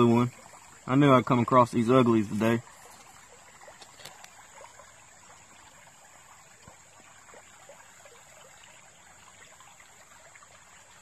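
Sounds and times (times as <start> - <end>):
creek water trickling over gravel: 0.0 - 11.0.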